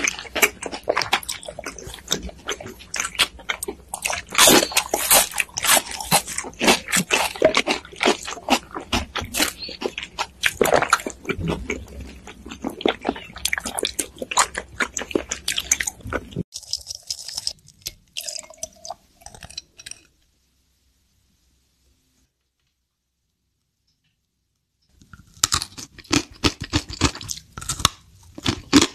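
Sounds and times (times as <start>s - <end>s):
chewing crunchy chips: 0.0s - 20.1s, 25.0s - 28.9s.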